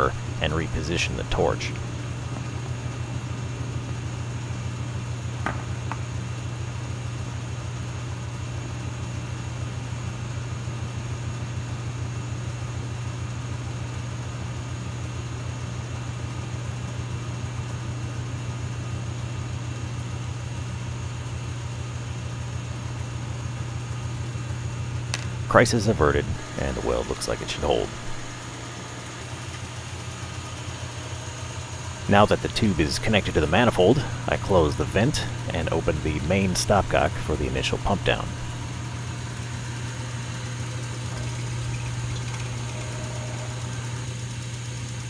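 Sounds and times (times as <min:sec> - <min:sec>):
machine droning: 0:00.0 - 0:13.6, 0:19.8 - 0:45.0.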